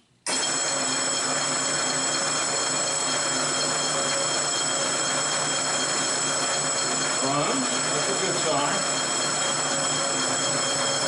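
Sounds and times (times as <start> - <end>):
drill press motor whining: 0.3 - 11.0.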